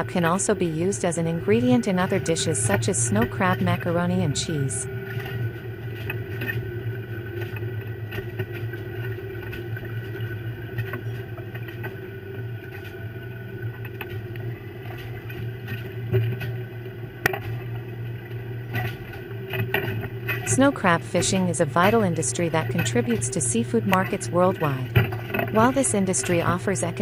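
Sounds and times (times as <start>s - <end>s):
boat engine droning: 0.0s - 27.0s
crabs clicking and knocking: 4.8s - 27.0s.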